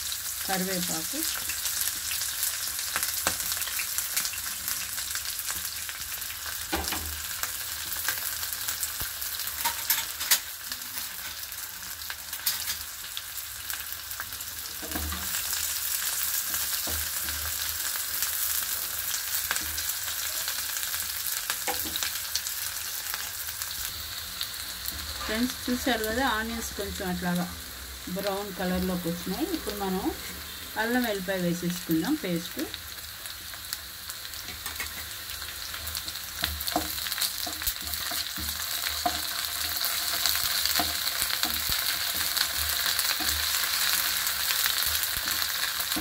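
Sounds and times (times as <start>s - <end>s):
onions sizzling in hot oil: 0.0s - 46.0s.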